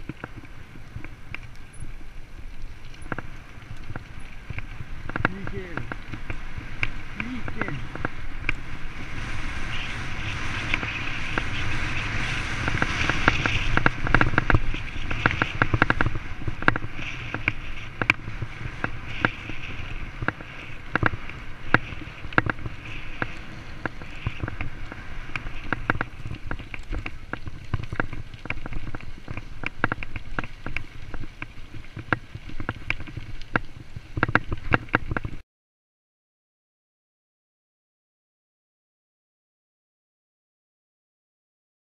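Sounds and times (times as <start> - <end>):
bike rattling over bumps: 0.0 - 35.4
bike tyres rolling on gravel: 0.0 - 35.4.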